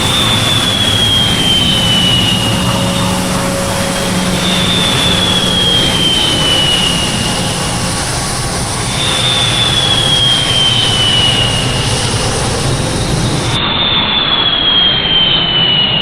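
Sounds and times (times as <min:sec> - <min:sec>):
jet airliner engines whining: 0:00.0 - 0:16.0.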